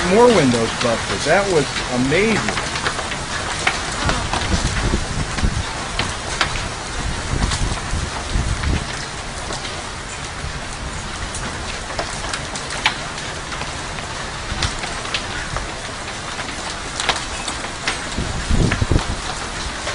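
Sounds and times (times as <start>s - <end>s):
hail and rain falling: 0.0s - 19.9s
hailstones clicking on hard surfaces: 0.0s - 19.9s.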